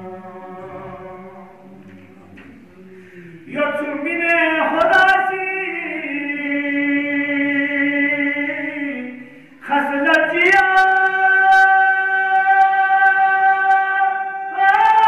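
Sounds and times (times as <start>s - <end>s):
man chanting in long notes: 0.0s - 15.0s.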